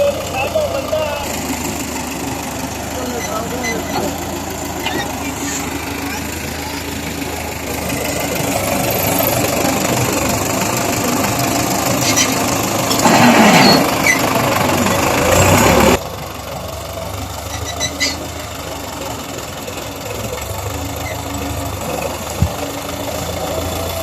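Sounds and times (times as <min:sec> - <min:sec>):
tractor diesel engine working hard: 0:00.0 - 0:24.0.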